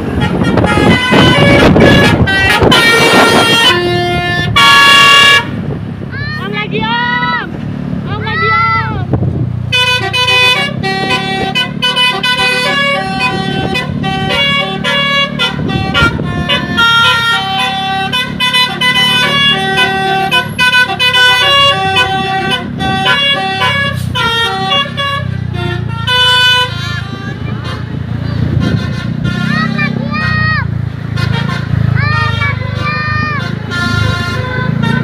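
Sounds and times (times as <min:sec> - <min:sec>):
multi-tone air horns playing notes: 0:00.0 - 0:05.6, 0:09.7 - 0:30.3, 0:31.0 - 0:35.0
bus engines running: 0:00.0 - 0:35.0.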